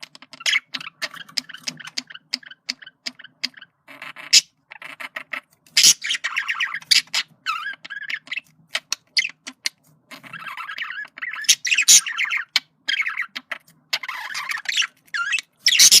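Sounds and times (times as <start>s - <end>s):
budgerigar warbling: 0.4s - 16.0s.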